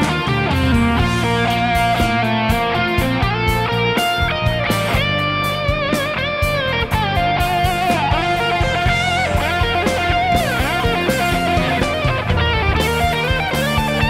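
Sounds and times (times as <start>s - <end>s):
band backing with steady beat: 0.0s - 14.0s
lead electric guitar bending notes: 0.0s - 14.0s.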